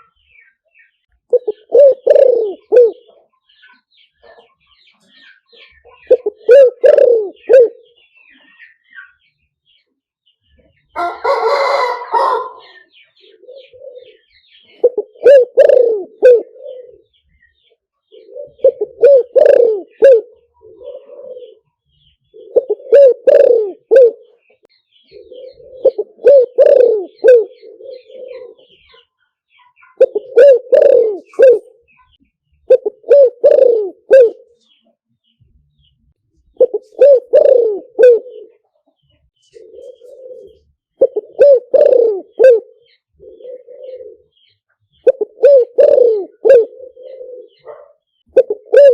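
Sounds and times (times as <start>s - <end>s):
dove cooing: 1.3s - 3.3s, 5.1s - 8.6s, 11.0s - 29.1s, 29.9s - 31.9s, 32.7s - 34.7s, 36.5s - 38.8s, 39.4s - 48.9s.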